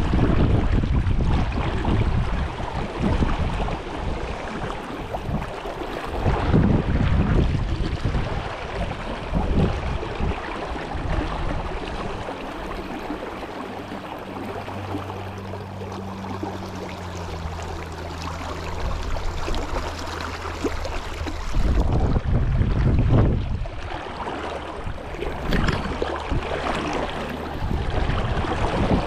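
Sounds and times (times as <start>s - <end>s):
brook water rushing: 0.0s - 29.0s
low steady hum: 0.0s - 29.0s.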